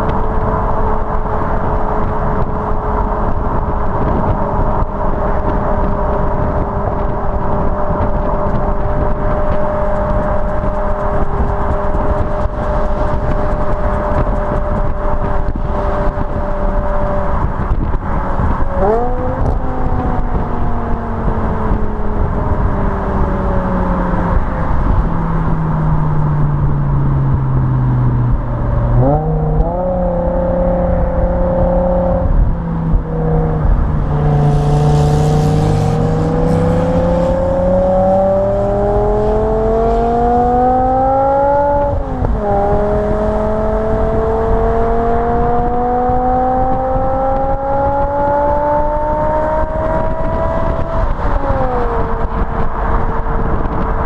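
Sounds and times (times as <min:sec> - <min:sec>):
car engine revving: 0:00.0 - 0:54.0
tyre and road noise: 0:00.0 - 0:54.0.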